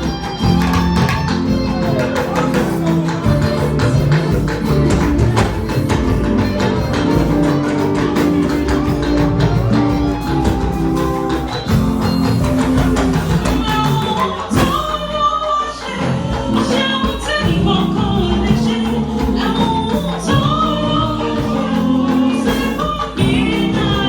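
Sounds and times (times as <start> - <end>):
band with guitar and percussion: 0.0 - 24.0
voices singing: 0.0 - 24.0.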